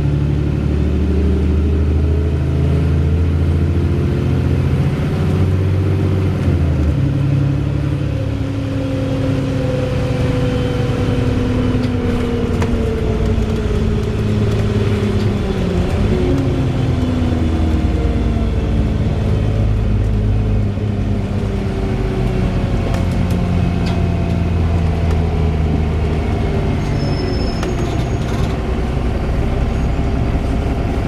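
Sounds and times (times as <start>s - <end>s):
bus engine hum: 0.0s - 31.0s.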